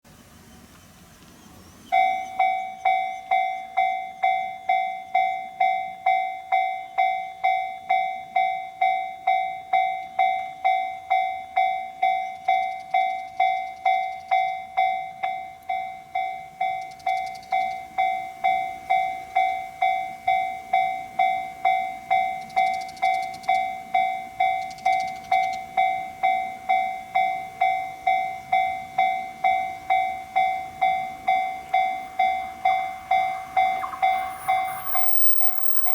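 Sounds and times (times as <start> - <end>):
level crossing warning bell: 1.9 - 35.9.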